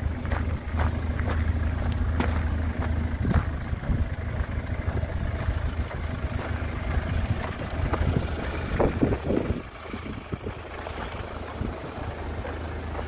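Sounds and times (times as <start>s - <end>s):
diesel engine idling: 0.0s - 13.0s
engine knocks: 0.0s - 13.0s.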